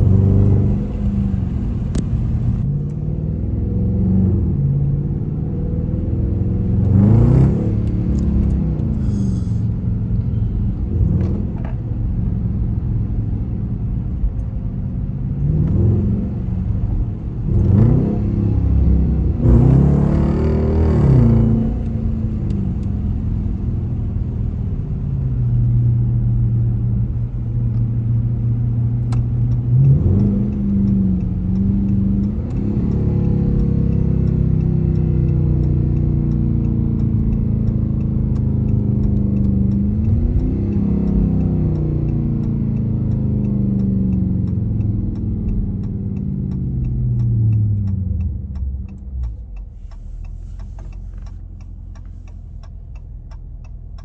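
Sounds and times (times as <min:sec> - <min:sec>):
car engine accelerating: 0:00.0 - 0:54.0
turn signal ticking: 0:04.2 - 0:54.0.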